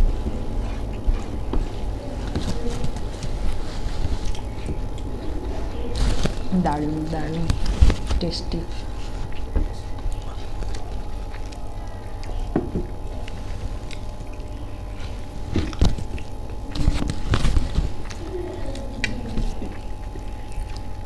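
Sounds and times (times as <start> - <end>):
person chewing: 0.0 - 6.5, 7.4 - 21.0
steady low hum: 0.0 - 21.0.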